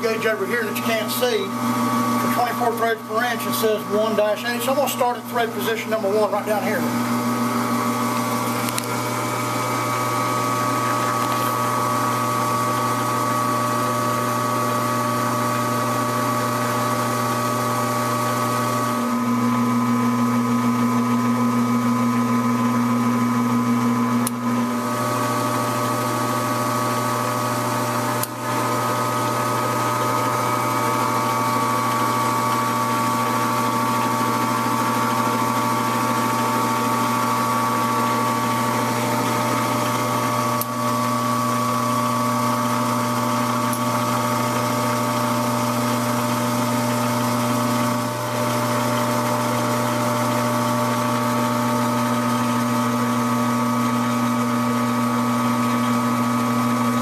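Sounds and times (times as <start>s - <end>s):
metal lathe humming and whining: 0.0s - 57.0s.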